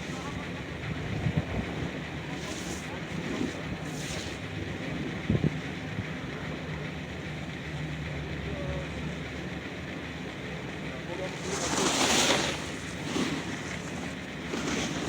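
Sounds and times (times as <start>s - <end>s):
steady rumbling noise: 0.0s - 15.0s.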